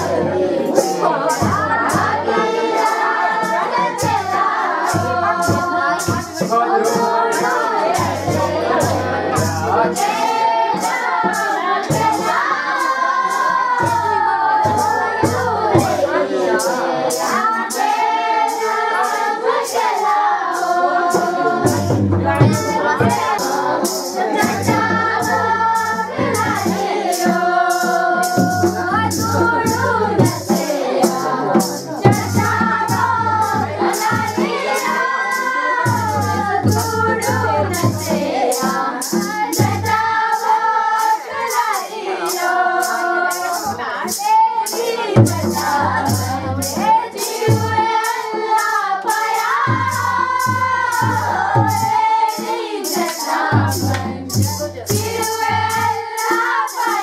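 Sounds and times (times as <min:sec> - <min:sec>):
steady percussive strikes: 0:00.0 - 0:57.0
women and children singing: 0:00.0 - 0:57.0.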